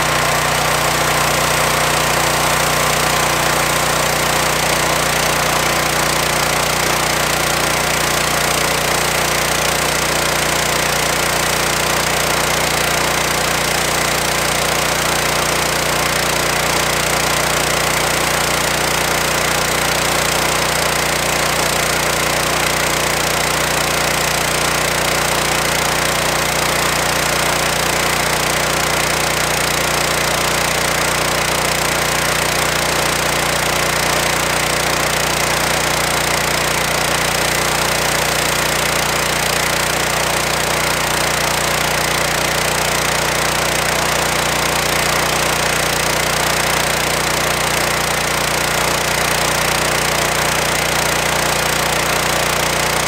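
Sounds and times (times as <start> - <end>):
petrol engine running steadily: 0.0 - 53.0.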